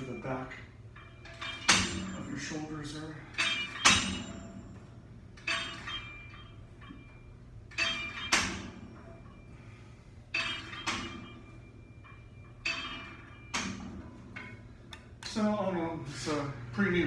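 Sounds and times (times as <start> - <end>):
cable machine metal clanks: 0.0 - 15.4.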